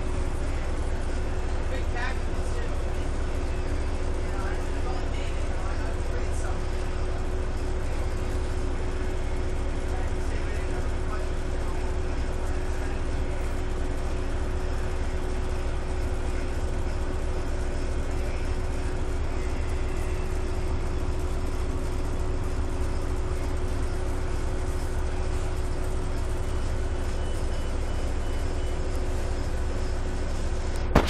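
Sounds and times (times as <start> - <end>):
constant whine: 0.0 - 31.0.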